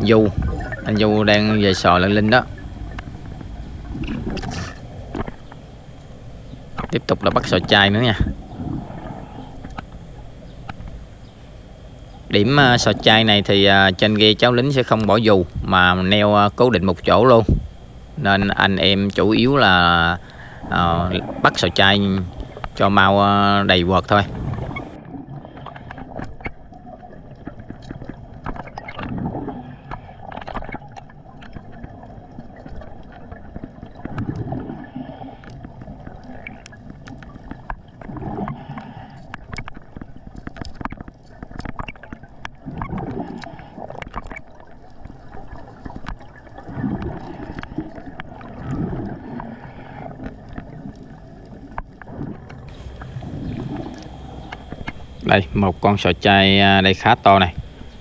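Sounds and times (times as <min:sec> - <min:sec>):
low underwater rumble: 0:00.0 - 0:39.0, 0:41.2 - 0:58.0
underwater bubbles gurgling: 0:00.0 - 0:58.0
clicks and scrapes on seabed: 0:00.1 - 0:15.6, 0:16.5 - 0:58.0.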